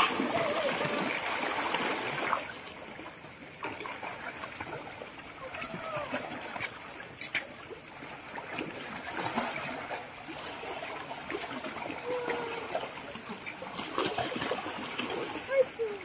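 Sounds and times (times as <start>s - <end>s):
water splashing and churning: 0.0s - 16.0s.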